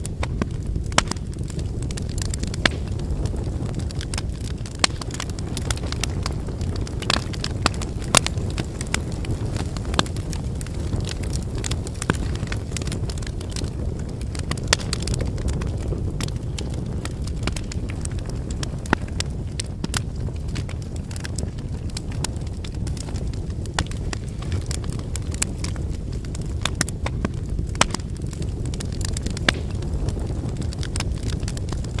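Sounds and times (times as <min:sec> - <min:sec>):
firewood crackling and popping: 0:00.0 - 0:32.0
low rumble of flames: 0:00.0 - 0:32.0.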